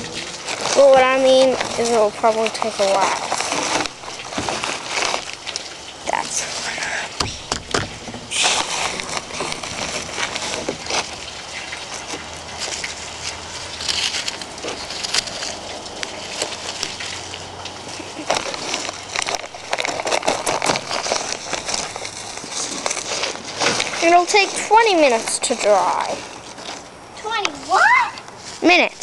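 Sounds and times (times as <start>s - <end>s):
hands patting crumbly wet mix: 0.0s - 29.0s.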